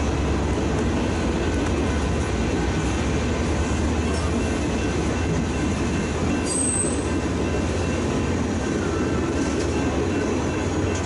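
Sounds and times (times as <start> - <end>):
train cars rumbling on rails: 0.0 - 11.0.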